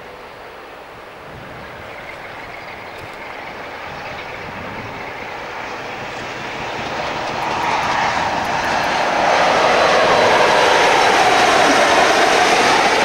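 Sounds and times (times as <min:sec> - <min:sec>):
diesel train rumble: 0:00.0 - 0:13.0.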